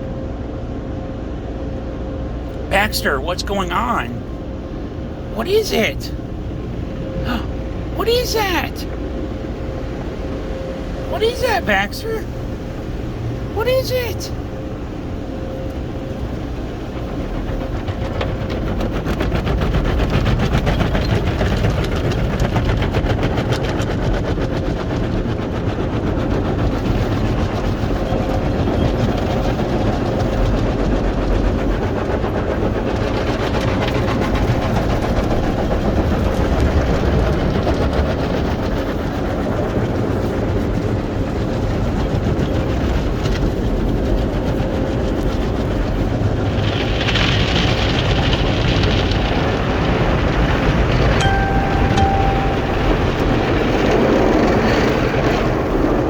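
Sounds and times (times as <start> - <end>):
car wash machinery hum: 0.0 - 56.0.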